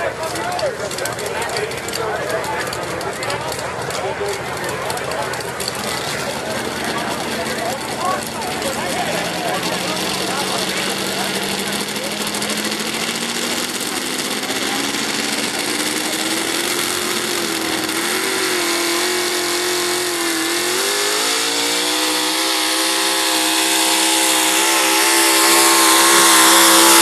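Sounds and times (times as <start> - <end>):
truck engine at high revs: 0.0 - 27.0.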